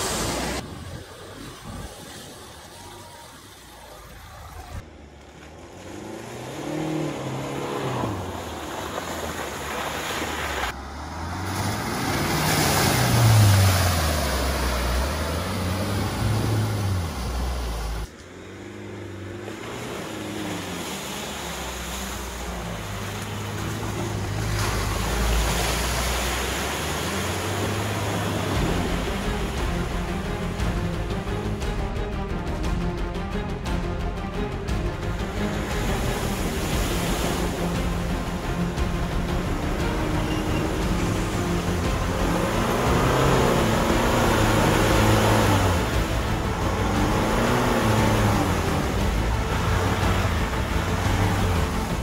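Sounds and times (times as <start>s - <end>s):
tyres sloshing through mud: 0.0s - 52.0s
diesel engine revving: 2.4s - 52.0s.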